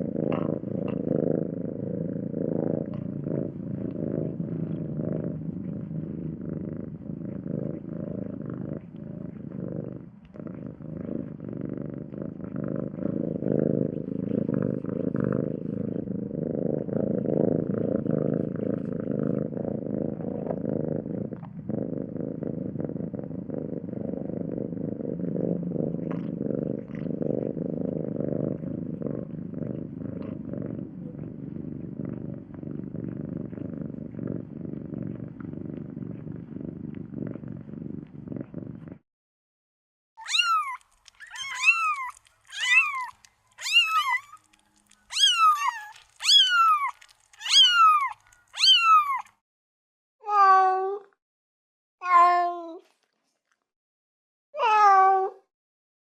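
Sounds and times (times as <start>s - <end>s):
cat purring: 0.0s - 39.0s, 40.3s - 49.4s.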